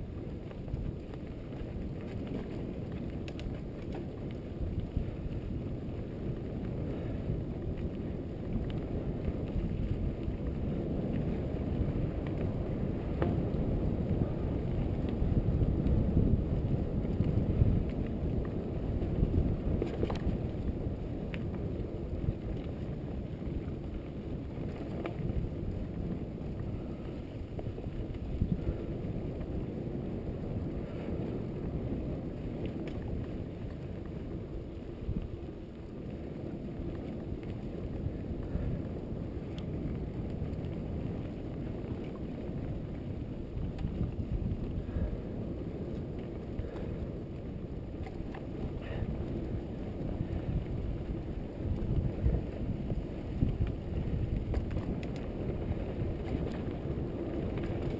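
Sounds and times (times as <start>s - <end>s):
mountain bike tyre noise: 0.0s - 57.9s
wind rush on microphone: 0.0s - 57.9s.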